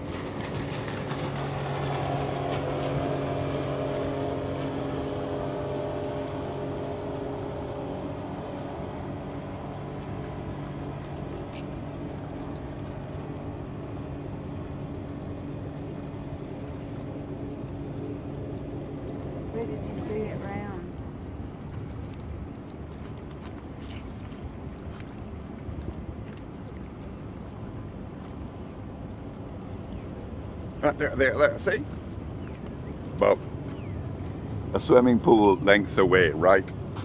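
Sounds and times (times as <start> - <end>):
ship engine drone: 0.0 - 37.0.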